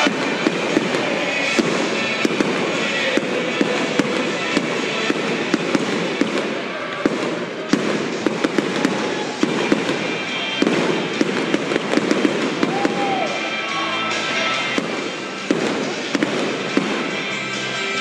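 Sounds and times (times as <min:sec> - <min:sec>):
firework shells bursting: 0:00.0 - 0:13.4, 0:14.5 - 0:17.5.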